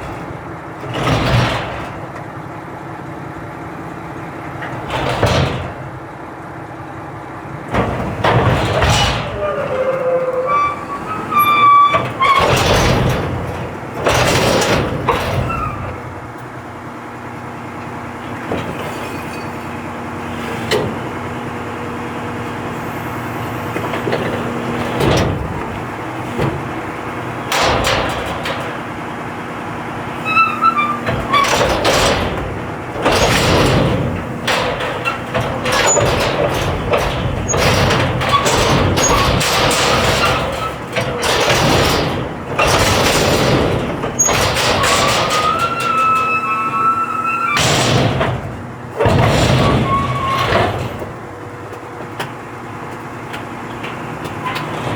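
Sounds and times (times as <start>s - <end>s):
clattering knocks and thuds: 0.0s - 2.3s, 4.5s - 6.0s, 7.7s - 16.6s, 17.8s - 19.6s, 23.7s - 54.9s
garbage truck engine hum: 0.0s - 54.9s.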